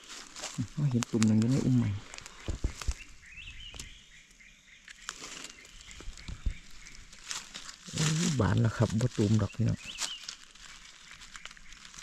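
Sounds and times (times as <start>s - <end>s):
dry leaves crackling and rustling: 0.0s - 3.9s, 4.9s - 12.0s
faint bird chirps: 0.0s - 12.0s.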